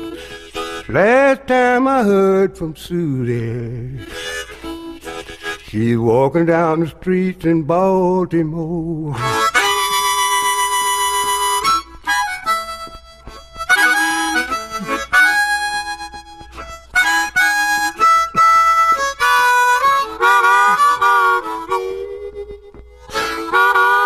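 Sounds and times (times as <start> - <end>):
blues harmonica: 0.0 - 24.0.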